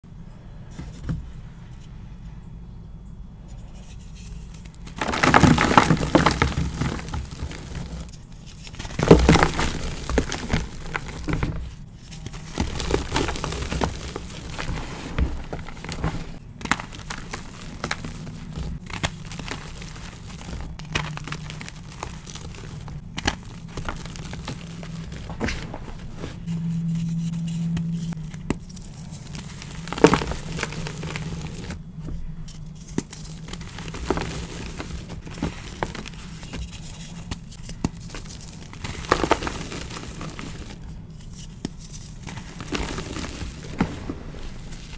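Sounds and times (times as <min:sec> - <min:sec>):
chalk crunching and crumbling: 0:03.7 - 0:44.9.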